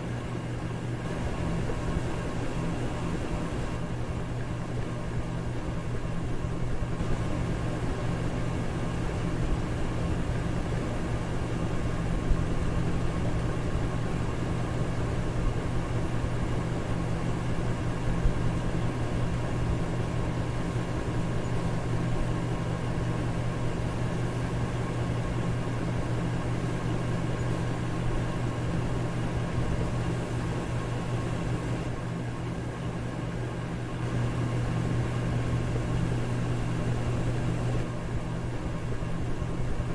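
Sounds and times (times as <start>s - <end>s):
electric fan whoosh and hum: 0.0s - 39.9s.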